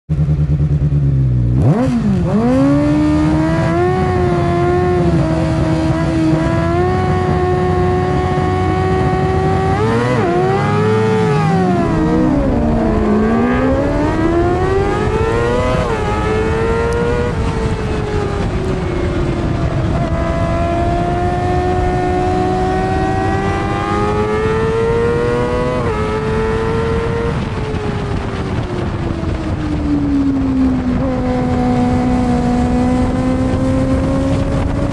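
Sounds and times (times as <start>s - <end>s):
racing engine revving: 1.5s - 28.9s, 30.3s - 34.9s
wind rushing past microphone: 1.6s - 34.9s.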